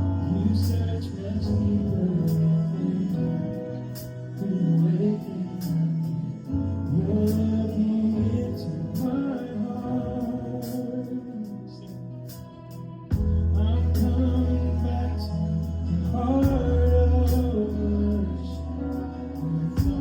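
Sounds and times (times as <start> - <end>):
worship band playing slow song: 0.0 - 20.0.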